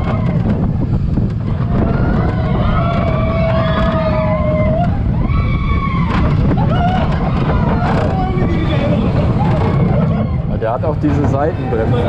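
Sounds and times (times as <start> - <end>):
roller coaster wheels rumbling: 0.0 - 12.0
wind on microphone: 0.0 - 12.0.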